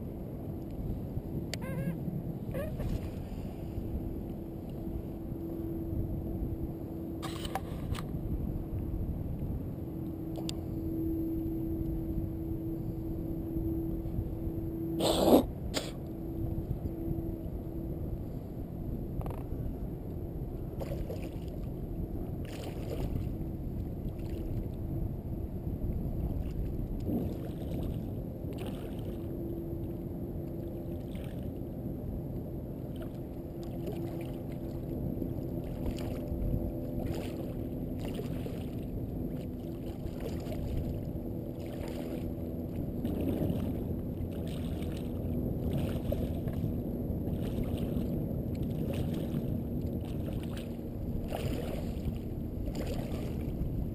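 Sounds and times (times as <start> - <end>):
water rumble against microphone: 0.0 - 53.9.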